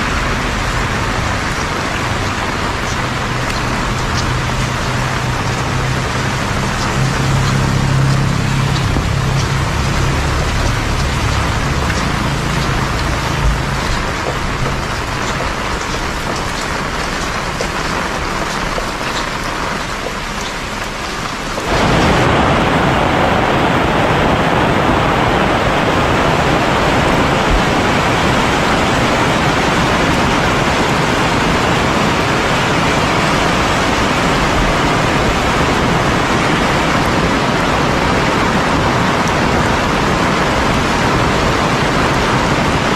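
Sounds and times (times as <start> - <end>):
heavy rain falling: 0.0 - 42.9
low engine hum: 0.0 - 42.9.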